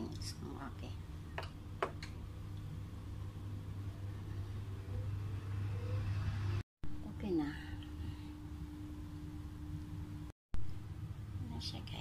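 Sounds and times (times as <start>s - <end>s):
air fryer fan whirring: 0.0s - 12.0s
low electrical hum: 0.0s - 12.0s.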